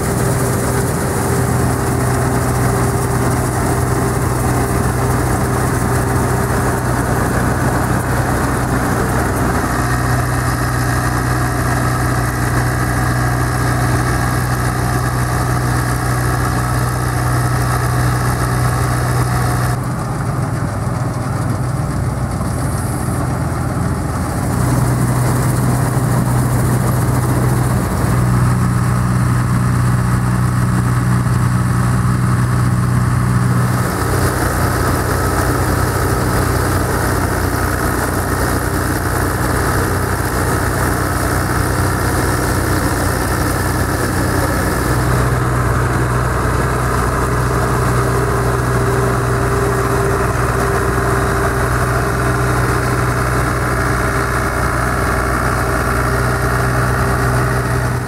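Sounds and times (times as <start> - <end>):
combine harvester drone: 0.0 - 58.0
high whine: 0.0 - 58.0.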